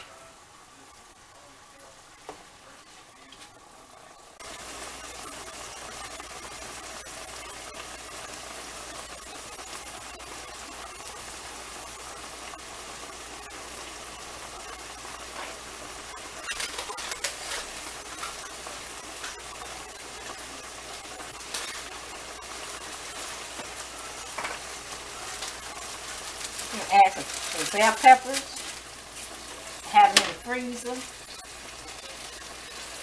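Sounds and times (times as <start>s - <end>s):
meat sizzling in a skillet: 4.1s - 33.0s
fat popping and crackling: 5.2s - 33.0s.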